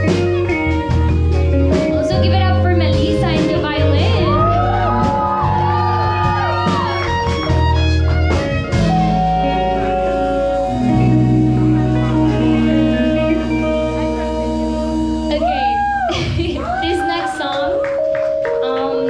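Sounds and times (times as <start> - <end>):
electric guitars: 0.0 - 19.0
heavy bass line: 0.0 - 19.0.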